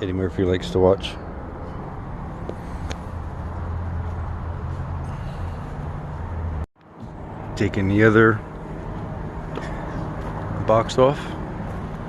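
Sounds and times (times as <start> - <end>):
traffic hum and rumble: 0.0 - 12.0.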